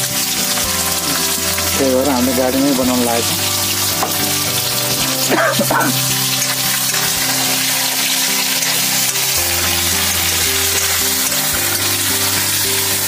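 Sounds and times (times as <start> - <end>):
background music with held notes: 0.0 - 13.0
curry sizzling in a pan: 0.0 - 13.0.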